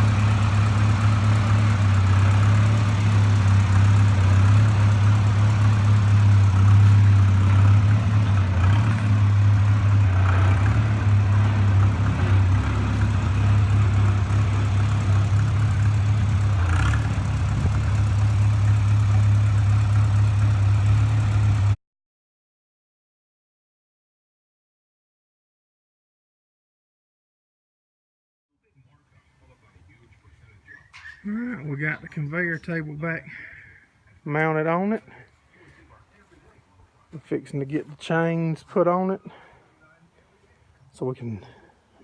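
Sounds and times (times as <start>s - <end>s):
engine idling: 0.0s - 21.8s, 28.8s - 42.0s.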